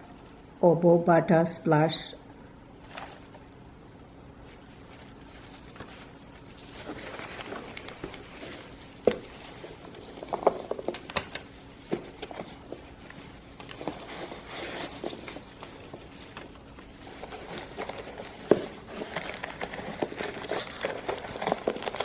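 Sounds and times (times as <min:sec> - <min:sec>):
packaging rustling: 0:02.8 - 0:03.5, 0:04.4 - 0:22.0.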